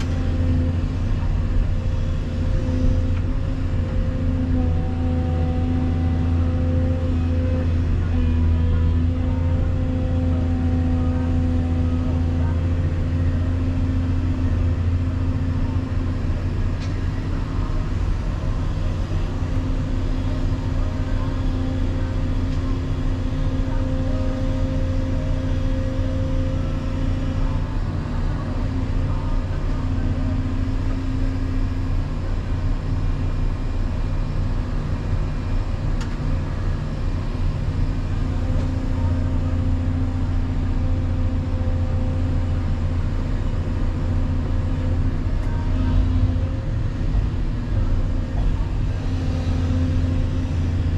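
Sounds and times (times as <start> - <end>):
excavator diesel engine droning: 0.0 - 50.9.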